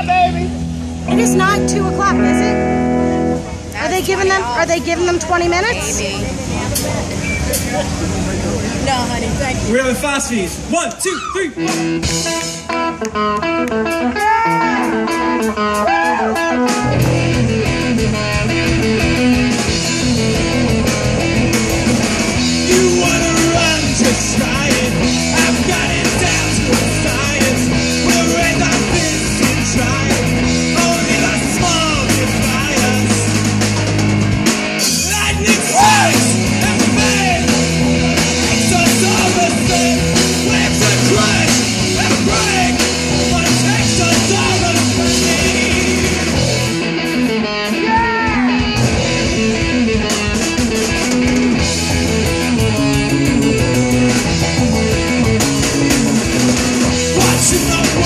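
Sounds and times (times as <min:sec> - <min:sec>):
electric guitar: 0:00.0 - 0:09.8, 0:10.5 - 0:58.0
drums and bass: 0:00.0 - 0:58.0.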